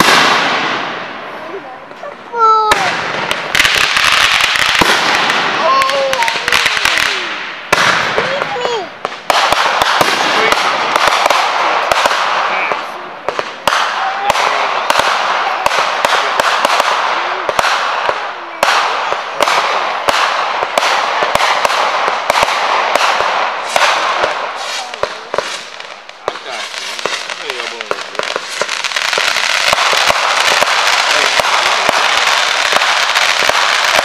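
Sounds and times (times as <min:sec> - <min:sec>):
fireworks bangs: 0:00.0 - 0:34.0
fireworks hissing crackle: 0:00.0 - 0:34.0.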